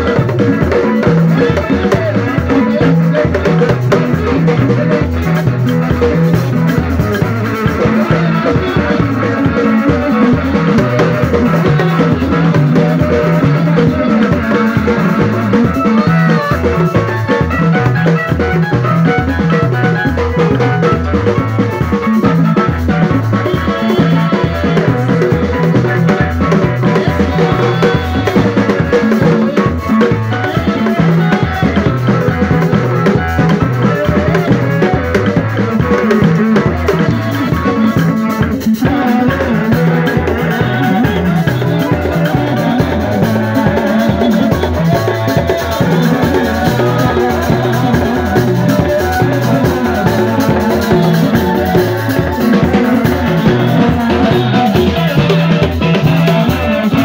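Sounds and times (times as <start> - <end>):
amplified pitched instruments: 0.0 - 57.0
drum kit: 0.0 - 57.0
hand drums beaten with sticks: 0.0 - 57.0.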